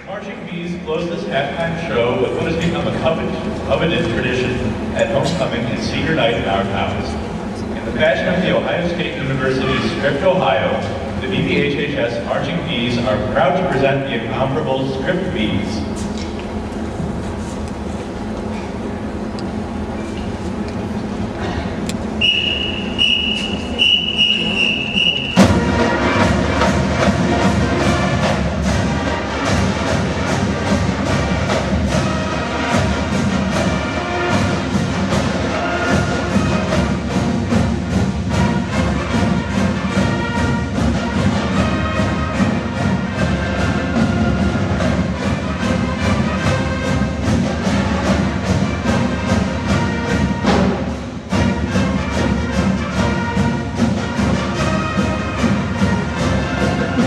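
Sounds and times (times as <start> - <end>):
brass instruments playing: 0.0 - 57.0
steady drum beat: 1.4 - 57.0.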